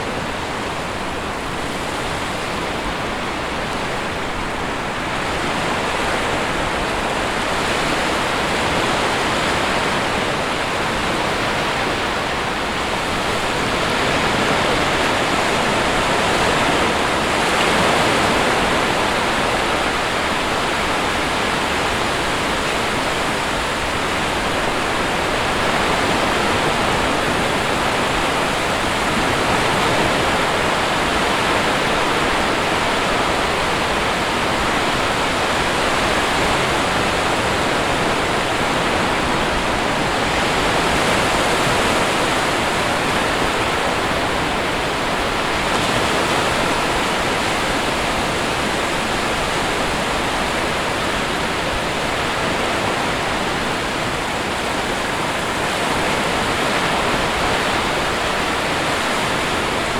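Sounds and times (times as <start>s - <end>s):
sea surf rushing: 0.0s - 59.9s.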